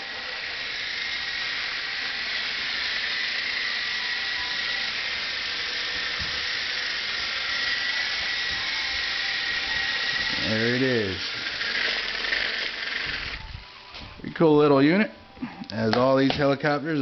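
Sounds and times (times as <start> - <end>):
small rc helicopter flying: 0.0 - 13.7.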